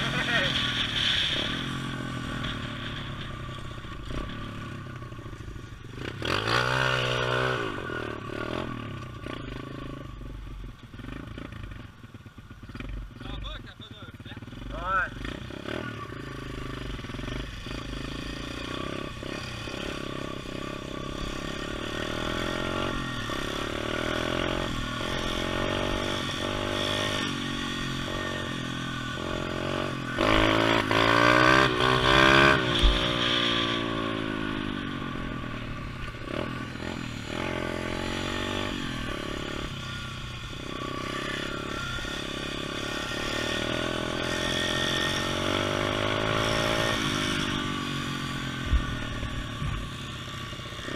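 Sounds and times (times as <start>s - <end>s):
pit bike engine revving: 0.0s - 50.9s.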